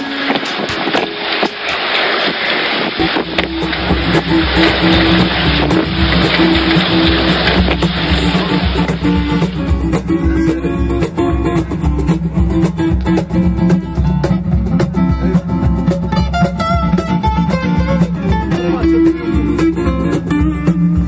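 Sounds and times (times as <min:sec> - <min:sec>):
cajon beat: 0:00.0 - 0:02.0, 0:02.7 - 0:21.0
acoustic guitar strumming: 0:03.0 - 0:21.0.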